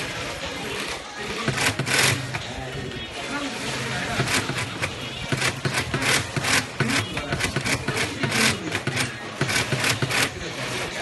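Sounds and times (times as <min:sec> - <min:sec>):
sewing machine stitching: 0:00.0 - 0:11.0.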